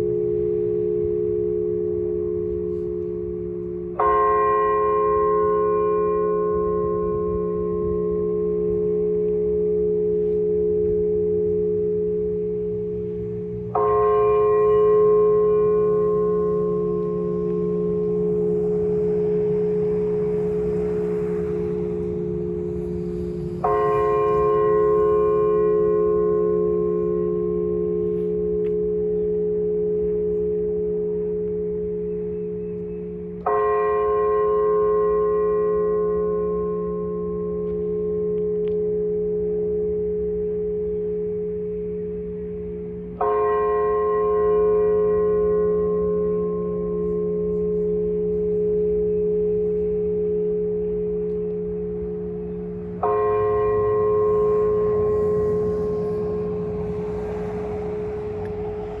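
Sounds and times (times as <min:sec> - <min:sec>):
deep church bell tone: 0:00.0 - 0:59.0.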